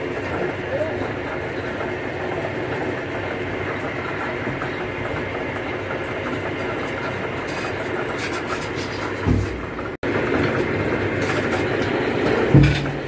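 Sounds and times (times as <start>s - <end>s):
drilling rig engine droning: 0.0s - 13.0s.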